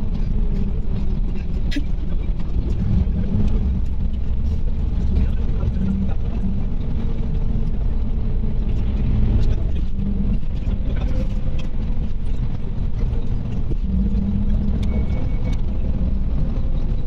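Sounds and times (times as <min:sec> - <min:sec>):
bus engine and road drone: 0:00.0 - 0:17.0.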